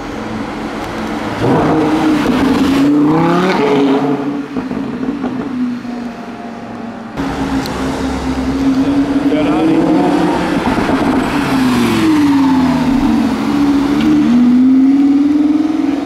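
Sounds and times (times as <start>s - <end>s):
sports car engine accelerating: 0.0s - 6.1s, 7.1s - 16.0s.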